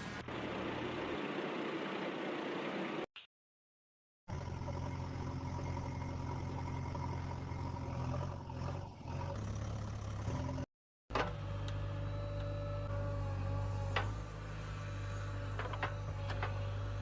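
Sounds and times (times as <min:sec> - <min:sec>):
engine-like drone: 0:00.0 - 0:03.0, 0:04.3 - 0:17.0.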